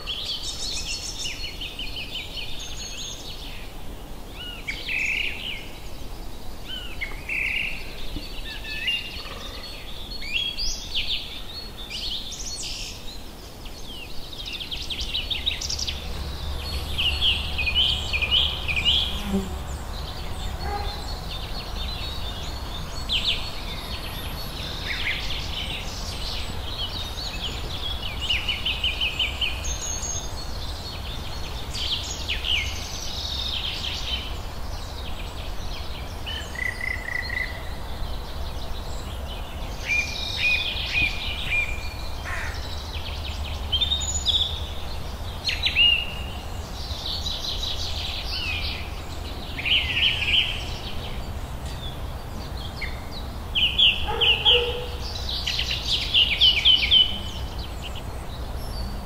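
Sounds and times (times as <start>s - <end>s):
songbirds singing and trilling: 0.0s - 59.0s.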